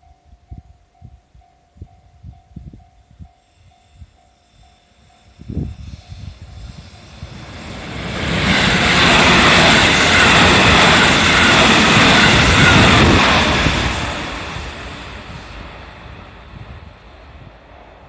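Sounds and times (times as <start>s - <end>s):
train passing at speed: 0.0s - 18.0s
train wheels rumbling on rails: 0.5s - 18.0s.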